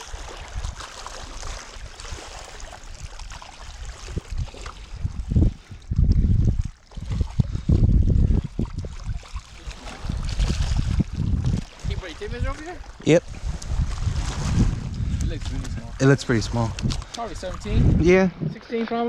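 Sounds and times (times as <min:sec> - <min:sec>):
water lapping against boat hull: 0:00.0 - 0:19.0
wind buffeting microphone: 0:00.0 - 0:19.0.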